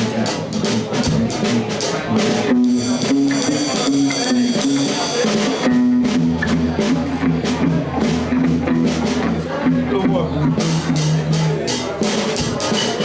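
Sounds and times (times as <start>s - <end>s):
blues band playing: 0.0s - 13.0s
drum kit beat: 0.0s - 13.0s.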